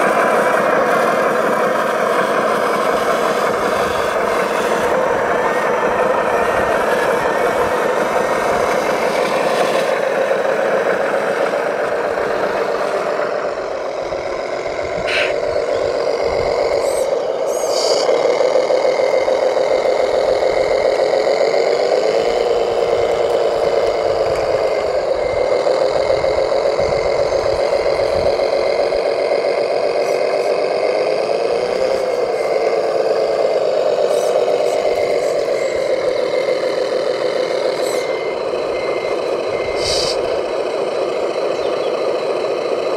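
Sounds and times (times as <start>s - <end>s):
model truck motor droning: 0.0s - 42.9s.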